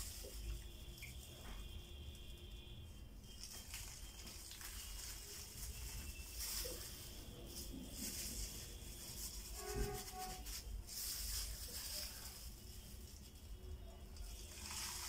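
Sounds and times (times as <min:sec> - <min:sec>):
plastic rustling and crinkling: 0:00.0 - 0:02.6, 0:03.2 - 0:15.0.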